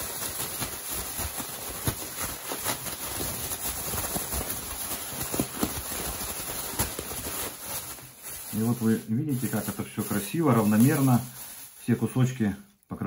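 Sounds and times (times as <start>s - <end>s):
plastic bag rustling: 0.0s - 12.6s.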